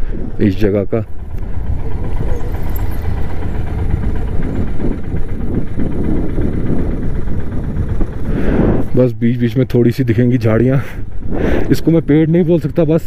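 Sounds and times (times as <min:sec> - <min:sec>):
motorcycle engine running: 0:00.0 - 0:13.0
wind rumbling on microphone: 0:00.0 - 0:13.0.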